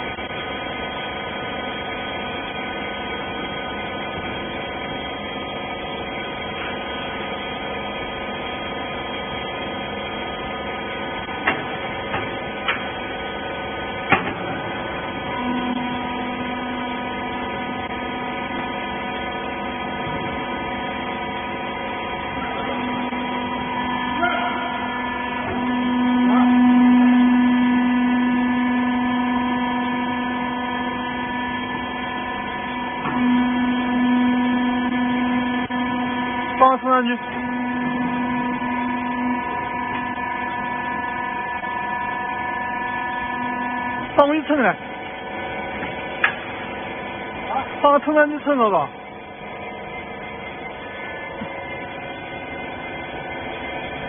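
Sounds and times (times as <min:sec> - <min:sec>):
hydraulic baler motor humming: 0:00.0 - 0:54.0.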